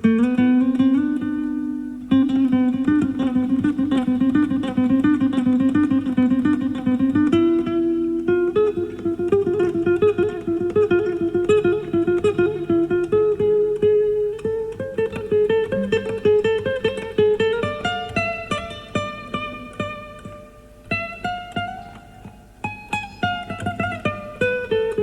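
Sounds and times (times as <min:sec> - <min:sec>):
classical guitar playing: 0:00.0 - 0:25.0.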